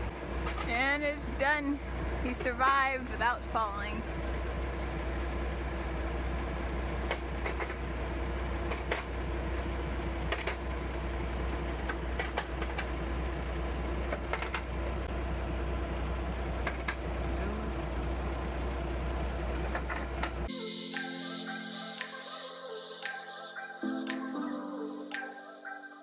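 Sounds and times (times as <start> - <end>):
truck engine humming: 0.0 - 25.6.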